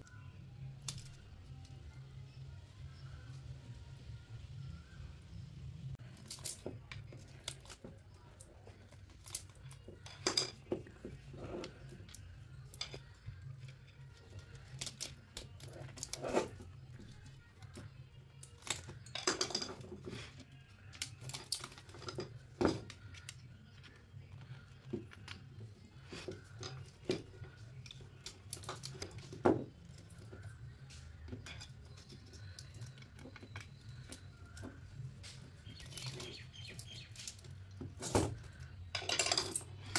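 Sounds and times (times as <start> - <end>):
metal tools clicking and scraping: 6.0 - 39.9.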